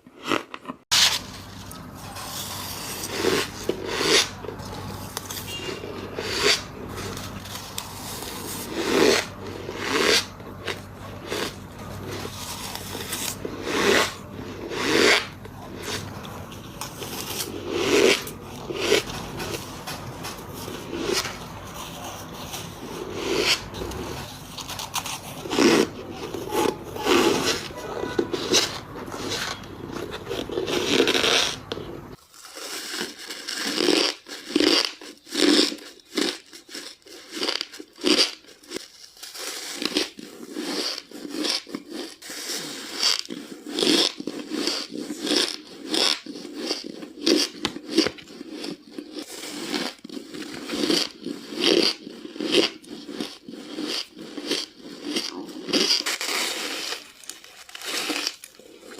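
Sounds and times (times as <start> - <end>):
ice being chewed: 0.0 - 58.9.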